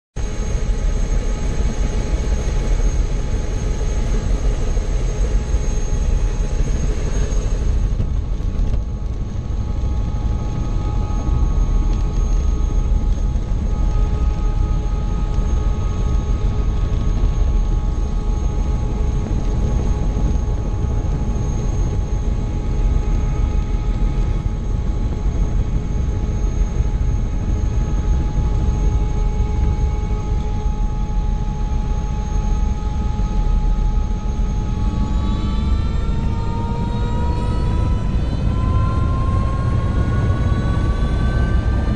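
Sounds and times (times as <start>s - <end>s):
helicopter engine and rotor: 0.2s - 41.9s.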